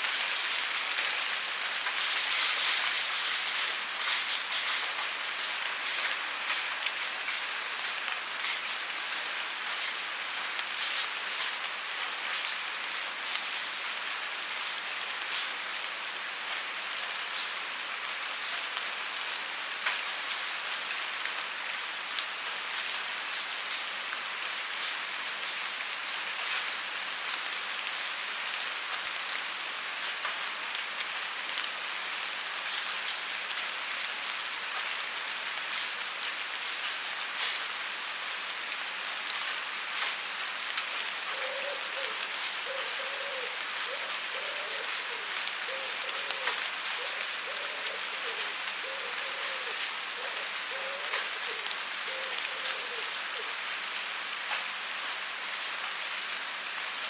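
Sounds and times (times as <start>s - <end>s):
raindrops ticking on a surface: 0.0s - 57.0s
steady rain falling: 0.0s - 57.0s.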